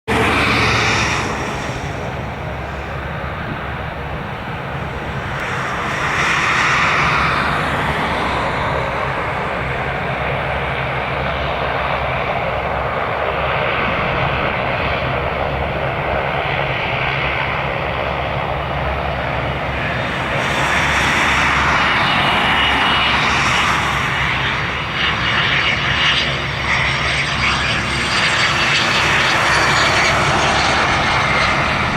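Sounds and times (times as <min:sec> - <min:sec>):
jet engines running: 0:00.1 - 0:31.9.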